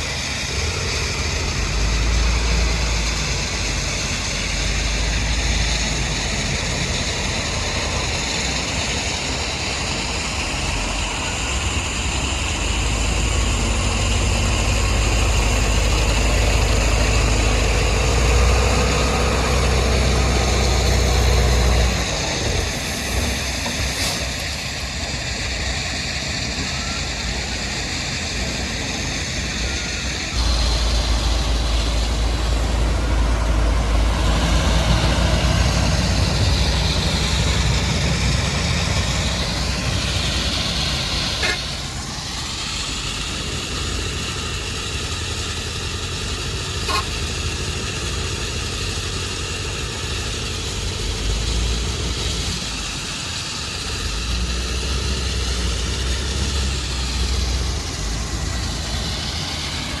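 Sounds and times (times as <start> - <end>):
diesel machinery engine rumble: 0.0 - 60.0
rising and falling whine: 0.0 - 60.0.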